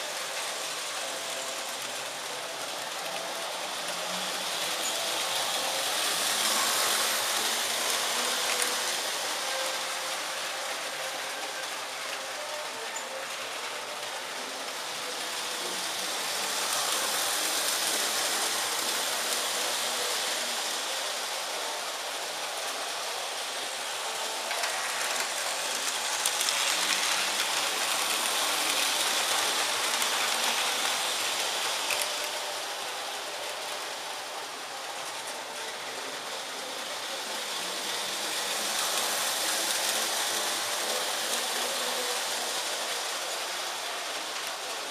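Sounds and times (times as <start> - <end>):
model train rolling rattle: 0.0 - 44.9.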